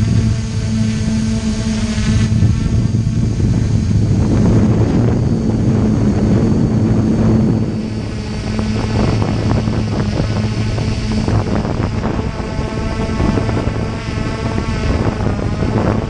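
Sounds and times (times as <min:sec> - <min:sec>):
drone propellers buzzing: 0:00.0 - 0:16.0
wind buffeting microphone: 0:00.0 - 0:16.0.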